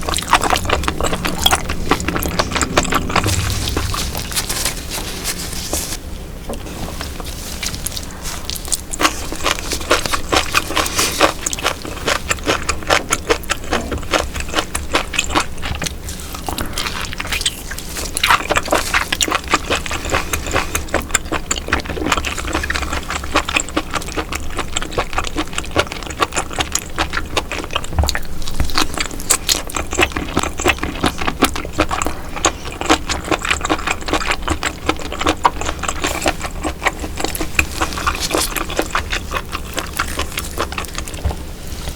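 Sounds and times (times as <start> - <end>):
wet chewing: 0.0 - 6.0, 6.8 - 41.9.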